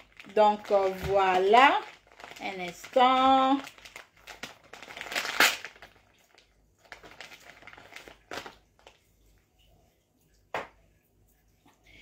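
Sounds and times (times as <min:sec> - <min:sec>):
paper tissue rustling: 0:00.0 - 0:09.7.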